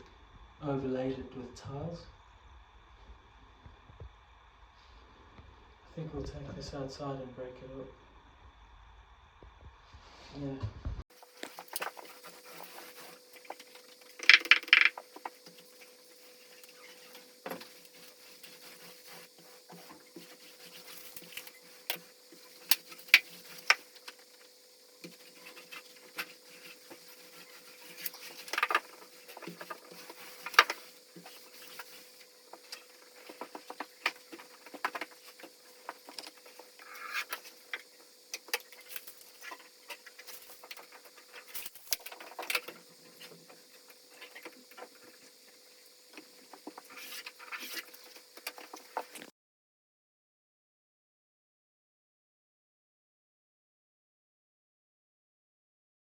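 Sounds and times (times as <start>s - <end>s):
faint steady hum: 0.0s - 49.3s.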